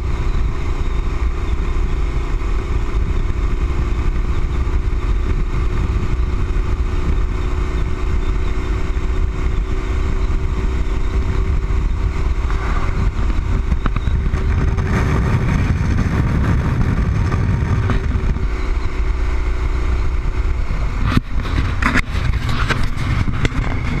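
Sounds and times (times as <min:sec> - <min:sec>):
motorcycle engine: 0:00.0 - 0:24.0
wind rumble on microphone: 0:00.0 - 0:24.0.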